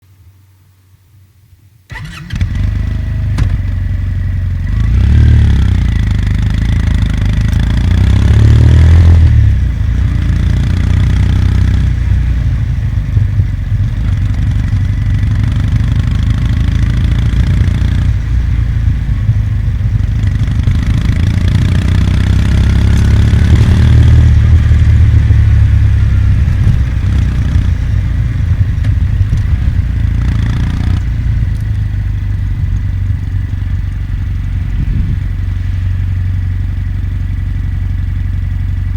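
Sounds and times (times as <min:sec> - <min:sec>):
motorcycle engine revving: 0:01.9 - 0:38.9.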